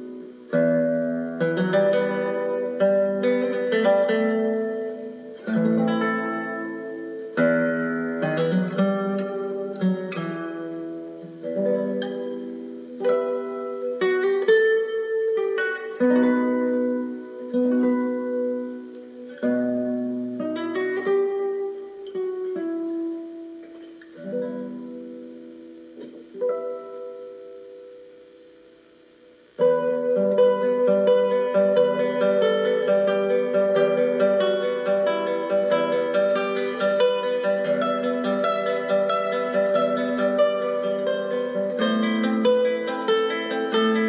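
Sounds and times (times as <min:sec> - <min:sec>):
plucked guitar music: 0:00.0 - 0:44.0.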